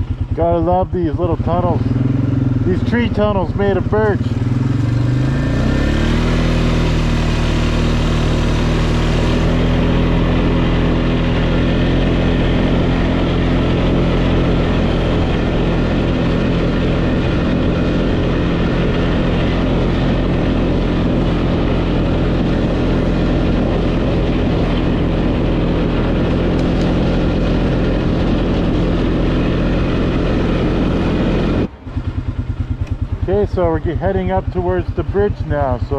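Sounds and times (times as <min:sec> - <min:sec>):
off-road vehicle engine drone: 0:00.0 - 0:35.9.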